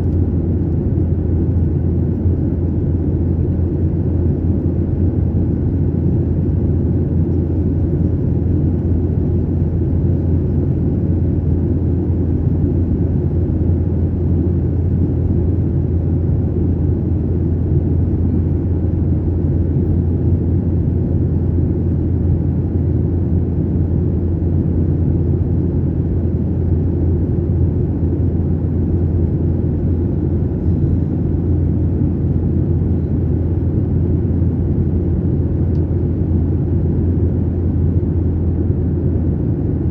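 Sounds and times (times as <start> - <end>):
airliner engines and airflow rumble: 0.0 - 39.9.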